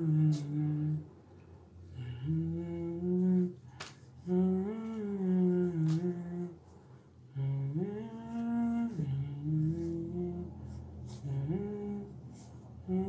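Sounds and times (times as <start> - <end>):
person humming: 0.0 - 1.1, 1.9 - 3.6, 4.2 - 6.7, 7.3 - 13.0.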